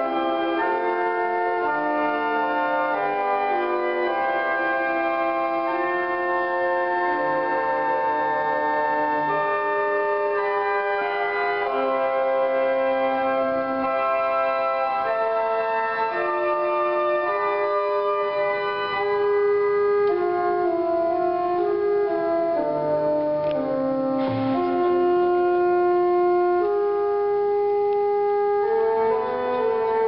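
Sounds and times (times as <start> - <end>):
pipe organ chords: 0.0 - 30.0.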